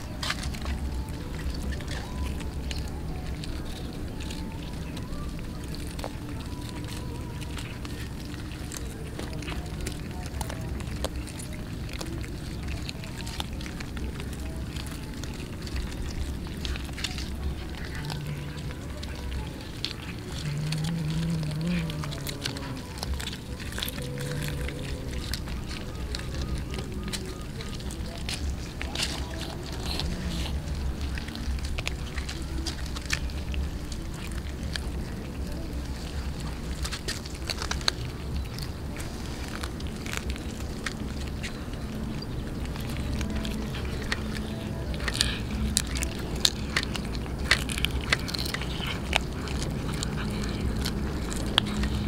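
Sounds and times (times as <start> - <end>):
cats chewing raw fish: 0.0 - 52.0
low background rumble: 0.0 - 52.0
low steady drone: 0.0 - 52.0.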